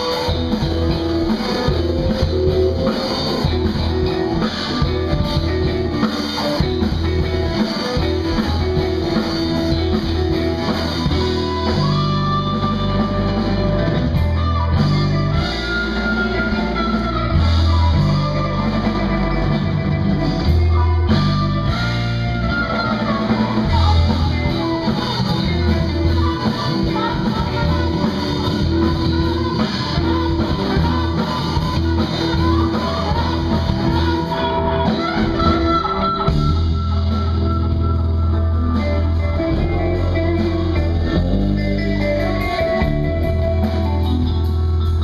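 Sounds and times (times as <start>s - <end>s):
bass guitar: 0.0s - 45.0s
electric guitar: 0.0s - 45.0s.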